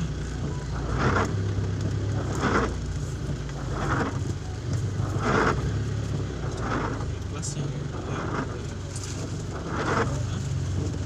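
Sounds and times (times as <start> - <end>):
car engine idling: 0.0 - 11.0
rain: 0.0 - 11.0
windshield wipers swishing: 0.0 - 11.0.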